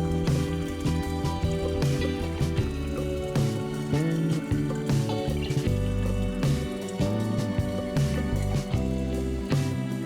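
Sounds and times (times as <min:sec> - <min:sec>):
plucked guitar music with bass: 0:00.0 - 0:10.0.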